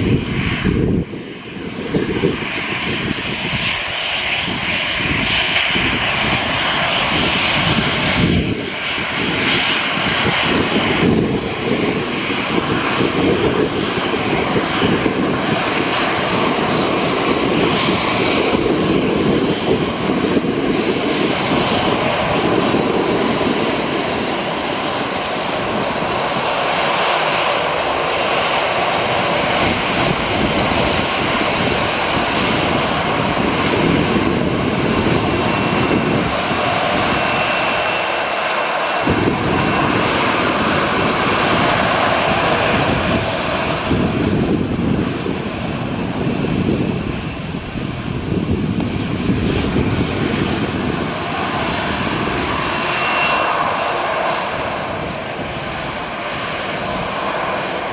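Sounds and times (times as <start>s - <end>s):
jet engines droning: 0.0s - 57.9s.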